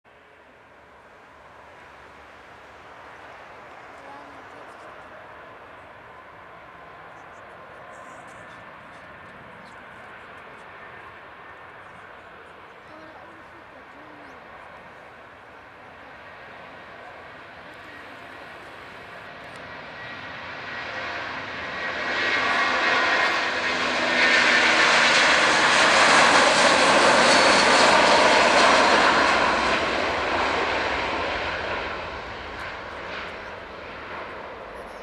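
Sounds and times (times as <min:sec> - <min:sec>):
jet engines at take-off thrust: 0:00.1 - 0:35.0
steady engine whine: 0:00.2 - 0:35.0.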